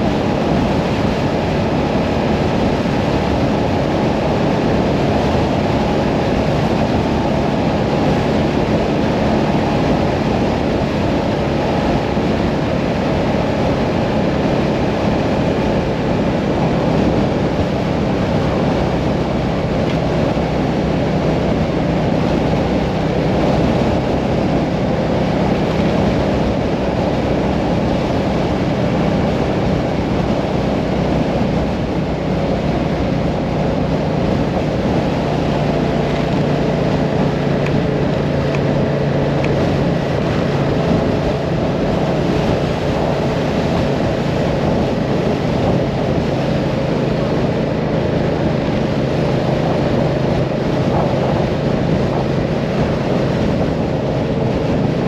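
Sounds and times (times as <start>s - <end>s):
motorcycle engine cruising: 0.0s - 55.0s
wind and road rush: 0.0s - 55.0s.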